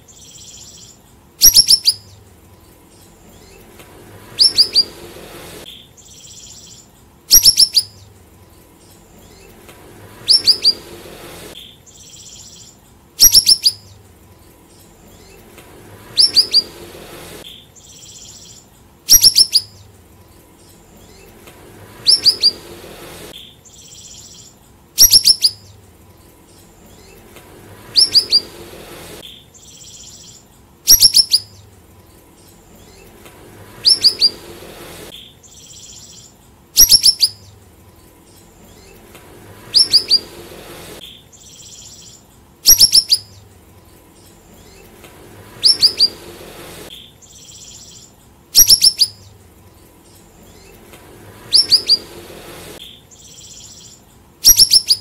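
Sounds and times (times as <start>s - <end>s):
songbird calling high falling notes: 0.1s - 55.0s.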